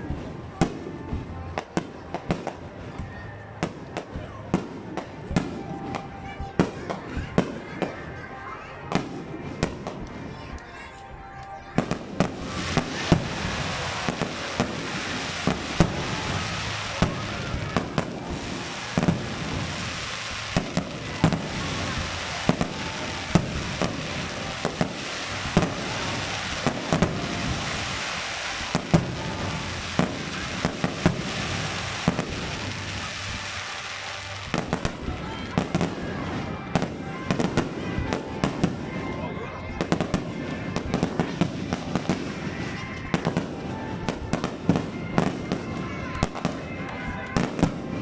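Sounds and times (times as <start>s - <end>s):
firework crackling: 0.0s - 48.0s.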